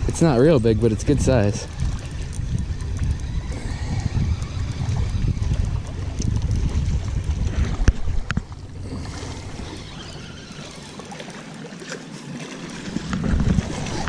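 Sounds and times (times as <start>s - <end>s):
wind buffeting microphone: 0.0s - 11.2s, 12.8s - 14.0s
waves lapping on rocks: 0.0s - 14.0s.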